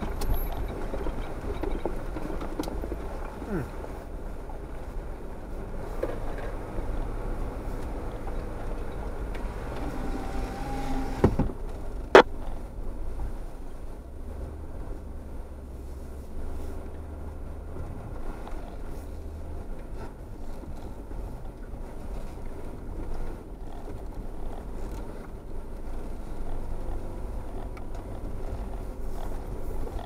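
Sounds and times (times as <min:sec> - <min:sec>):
car engine running low: 0:00.0 - 0:30.0.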